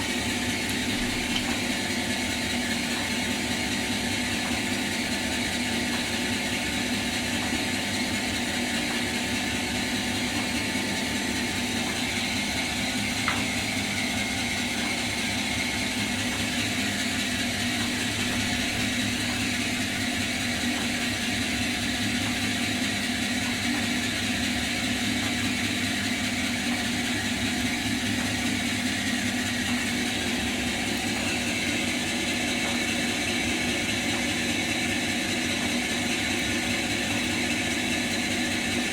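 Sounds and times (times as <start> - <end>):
brake lathe running: 0.0 - 38.9.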